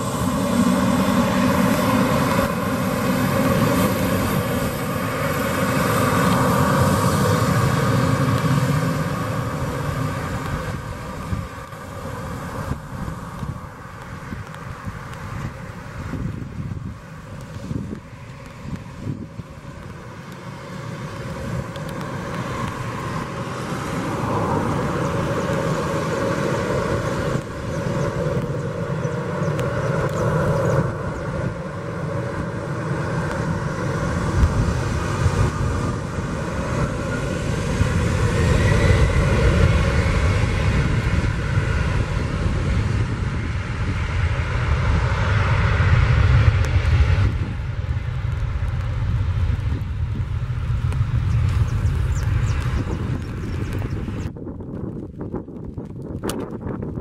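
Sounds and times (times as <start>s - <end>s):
turbine whine rising: 0.0s - 54.4s
deep rumble: 0.0s - 57.0s
jet engine noise: 0.0s - 57.0s.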